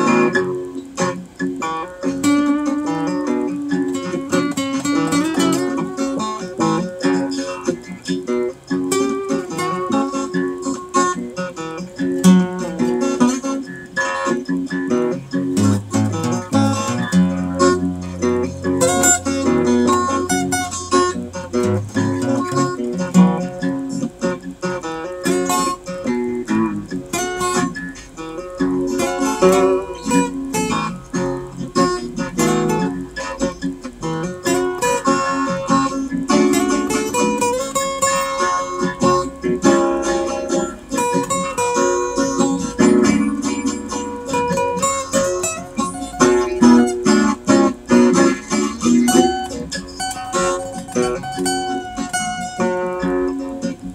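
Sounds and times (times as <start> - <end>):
acoustic guitar playing: 0.0 - 53.9.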